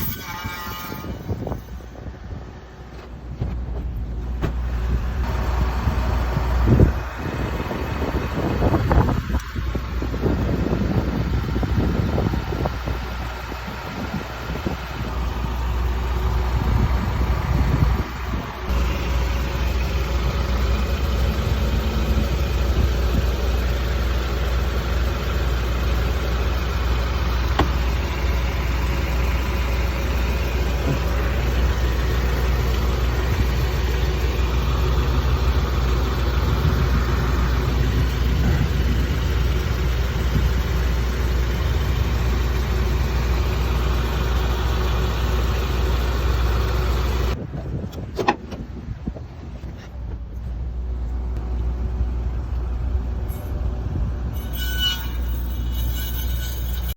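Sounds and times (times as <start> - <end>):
car engine drone: 0.0 - 56.9.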